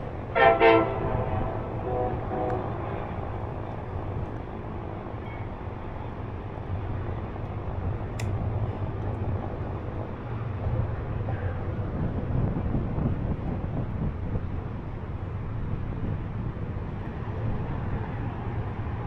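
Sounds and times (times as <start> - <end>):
wind and rolling rumble: 0.0 - 19.0.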